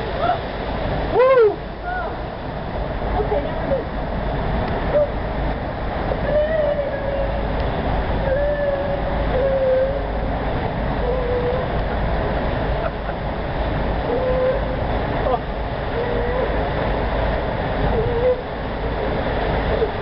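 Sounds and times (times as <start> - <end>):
rushing water and wind: 0.0 - 20.0.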